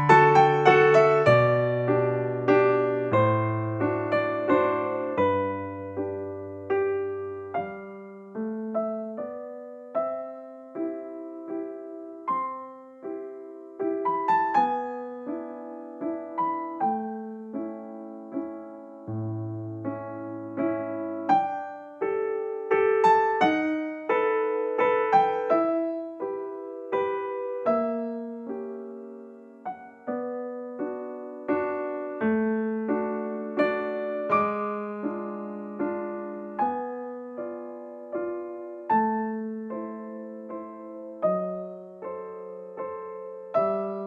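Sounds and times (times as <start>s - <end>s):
slow gentle piano piece: 0.0s - 44.0s.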